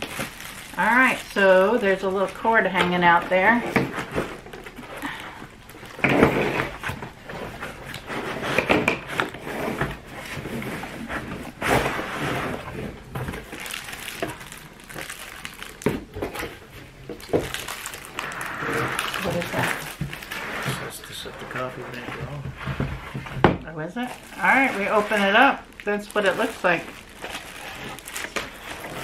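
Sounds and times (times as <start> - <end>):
plastic wrap crinkling: 0.0 - 23.2, 24.0 - 29.0.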